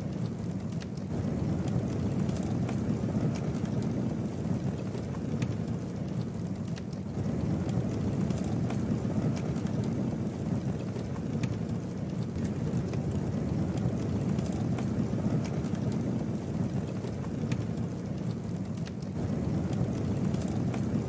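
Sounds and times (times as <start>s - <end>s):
campfire burning with crackles: 0.0s - 21.0s.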